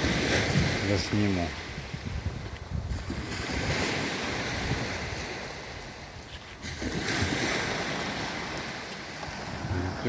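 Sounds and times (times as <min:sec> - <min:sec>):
sea waves breaking on beach: 0:00.0 - 0:10.0
wind rumbling on microphone: 0:00.0 - 0:10.0.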